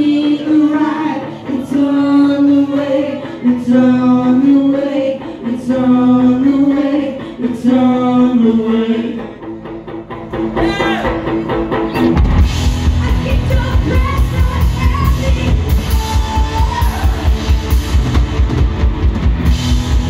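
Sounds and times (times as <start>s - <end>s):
rock vocalist singing: 0.0s - 9.8s, 10.4s - 20.0s.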